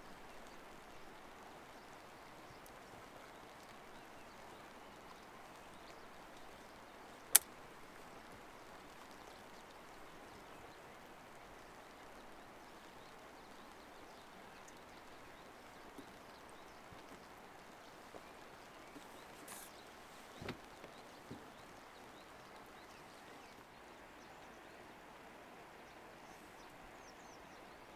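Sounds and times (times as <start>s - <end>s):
faint outdoor hiss: 0.0s - 27.9s.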